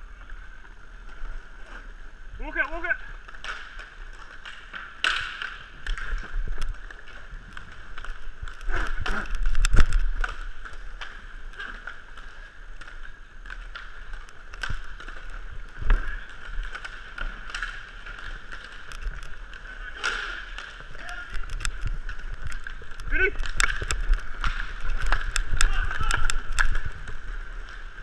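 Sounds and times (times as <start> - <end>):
inline skate wheels whirring: 0.0 - 2.3, 3.1 - 28.0
hockey sticks and puck clacking: 0.0 - 28.0.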